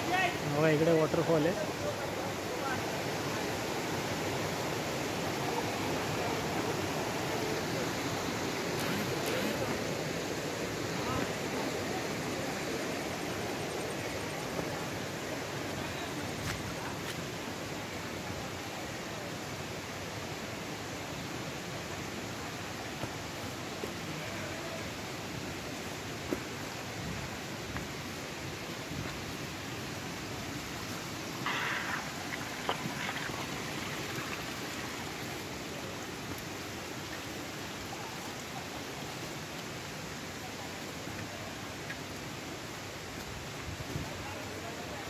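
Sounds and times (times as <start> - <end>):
flowing and falling water: 0.0 - 45.0.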